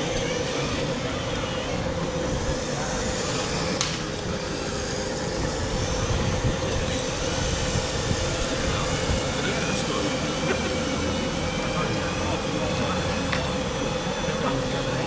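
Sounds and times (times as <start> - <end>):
model tractor motor humming: 0.0 - 15.0.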